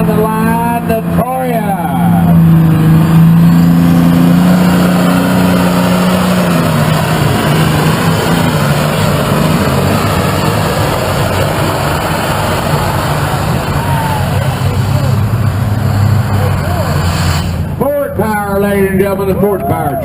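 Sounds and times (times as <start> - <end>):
tractor engine under load: 0.0 - 19.7.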